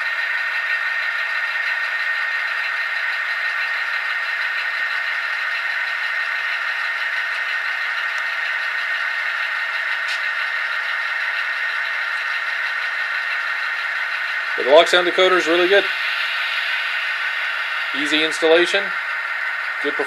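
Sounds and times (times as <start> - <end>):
model train diesel engine sound: 0.0 - 20.0.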